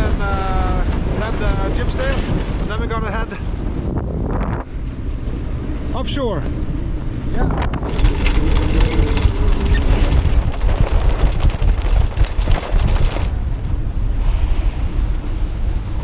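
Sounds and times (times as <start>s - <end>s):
sail flogging: 0.0s - 16.0s
wind rushing over microphone: 0.0s - 16.0s.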